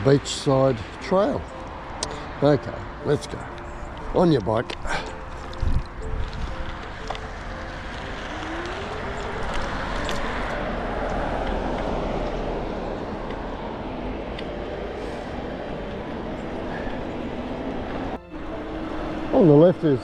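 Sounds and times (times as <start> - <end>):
car passing: 0.0 - 20.0.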